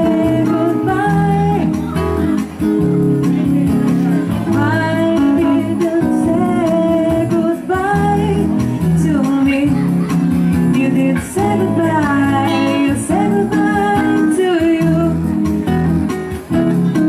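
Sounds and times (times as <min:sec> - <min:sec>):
person singing: 0:00.0 - 0:02.4, 0:03.3 - 0:15.5
guitar accompaniment: 0:00.0 - 0:17.0
steady bass notes: 0:00.0 - 0:17.0.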